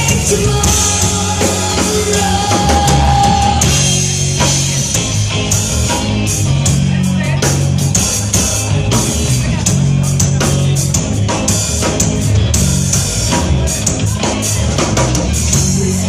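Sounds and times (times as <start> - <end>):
drum kit beat: 0.0 - 16.0
rock music: 0.0 - 16.0.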